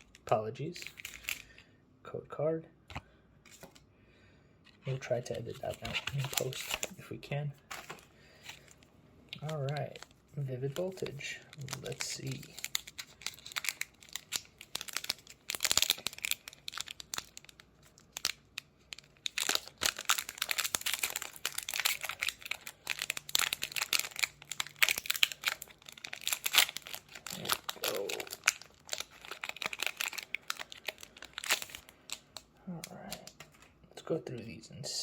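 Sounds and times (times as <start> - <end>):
foil wrapper crinkling and tearing: 0.0 - 1.6, 4.9 - 7.0, 7.7 - 33.7.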